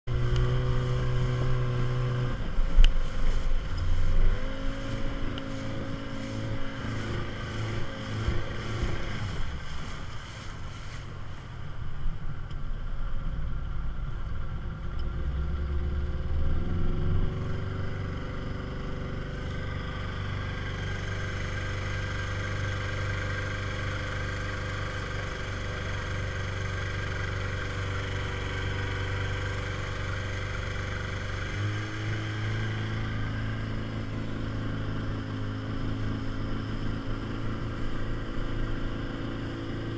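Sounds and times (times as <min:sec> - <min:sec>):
outboard motor running: 0:00.1 - 0:12.2, 0:12.9 - 0:39.9.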